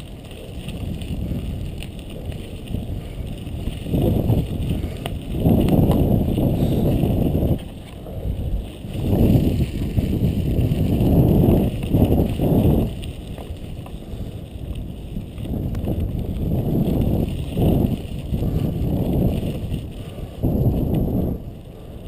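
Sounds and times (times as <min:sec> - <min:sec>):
bike rattles: 0:00.0 - 0:22.0
bike tyres rumbling on gravel: 0:00.0 - 0:22.0
wind on microphone: 0:00.0 - 0:22.0.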